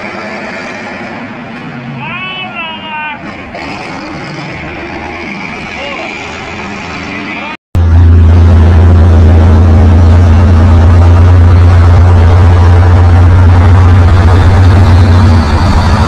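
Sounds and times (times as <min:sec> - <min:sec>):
road noise: 0:00.0 - 0:16.0
vehicle engine drone: 0:00.0 - 0:16.0.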